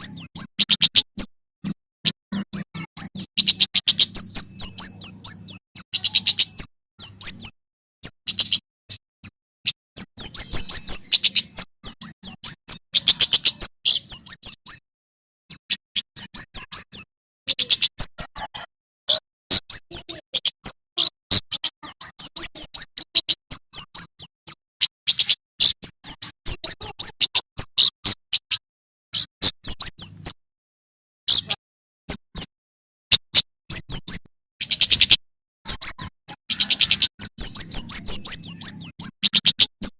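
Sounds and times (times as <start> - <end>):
bird chirping: 0.0 - 14.8, 15.5 - 28.6, 29.2 - 30.4, 31.2 - 32.5, 33.1 - 39.9.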